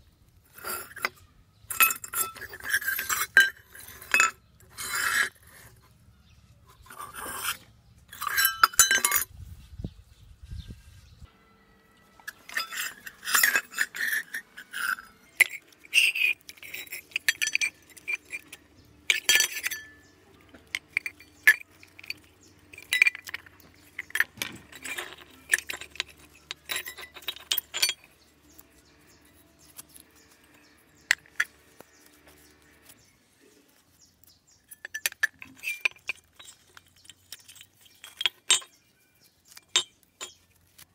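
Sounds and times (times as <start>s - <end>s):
small metal bells clinking: 1.7s - 5.2s, 6.9s - 9.3s, 11.9s - 32.6s, 34.6s - 40.6s.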